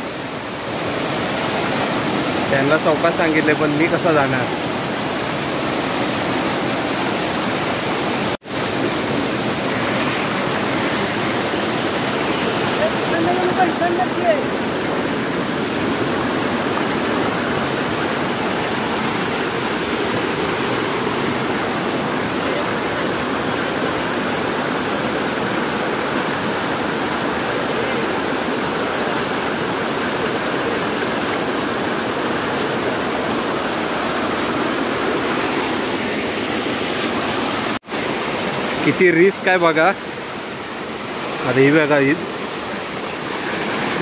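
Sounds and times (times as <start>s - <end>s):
water rushing down waterfall: 0.0s - 44.0s.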